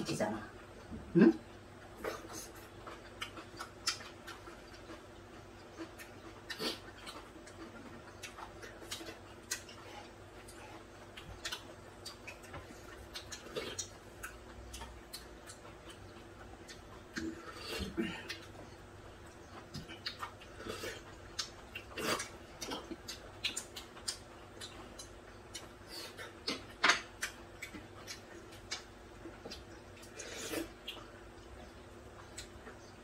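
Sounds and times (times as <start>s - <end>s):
chewing: 1.5s - 33.0s.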